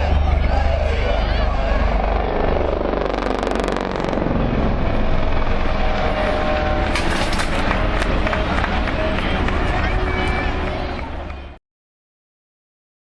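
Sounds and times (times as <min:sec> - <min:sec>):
helicopter rotor blades beating: 0:00.0 - 0:11.6
turbine engine whine: 0:00.0 - 0:11.6.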